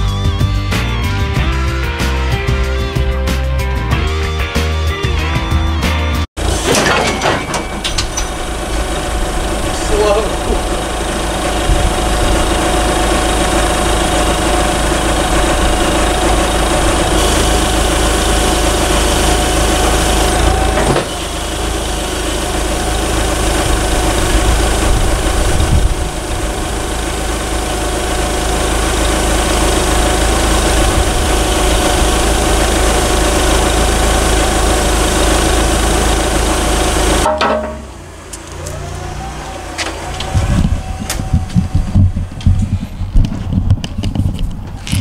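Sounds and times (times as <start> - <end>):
forklift engine running: 0.0 - 45.0.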